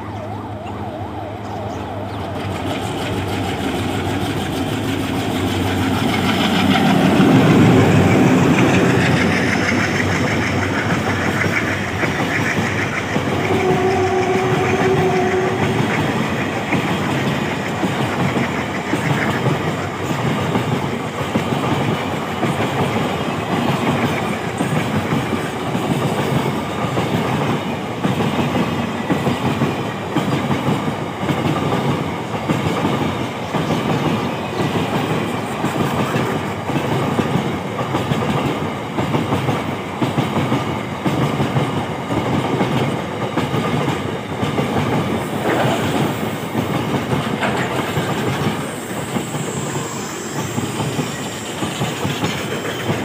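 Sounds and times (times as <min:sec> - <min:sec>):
freight train rumbling past: 0:00.0 - 0:53.0
wheels clacking over rail joints: 0:02.1 - 0:53.0.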